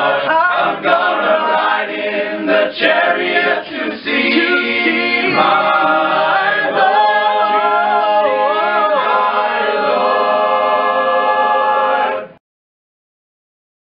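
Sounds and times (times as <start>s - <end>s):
male choir singing a cappella: 0.0s - 12.4s.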